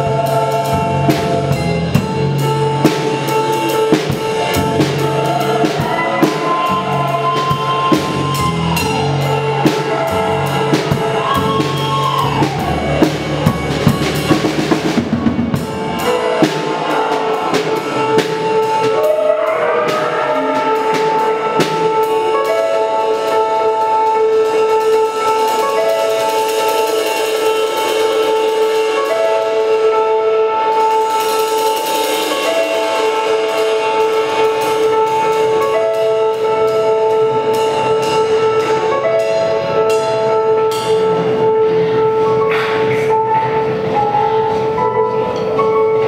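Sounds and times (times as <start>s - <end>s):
drum kit and cymbals: 0.0s - 46.0s.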